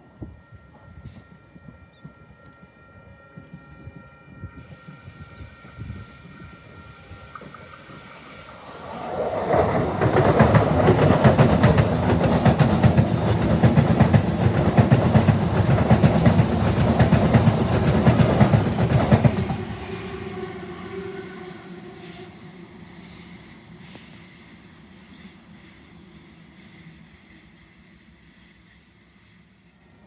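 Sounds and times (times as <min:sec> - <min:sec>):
train passing with clickety-clack: 0:00.7 - 0:30.0.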